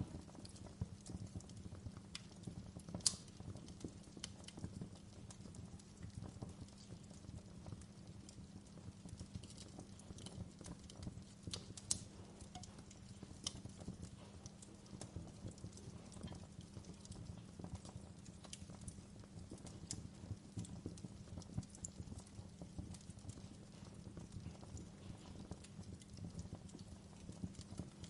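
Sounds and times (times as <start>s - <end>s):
campfire crackling and popping: 0.0s - 28.0s
low steady fire rumble: 0.0s - 28.0s.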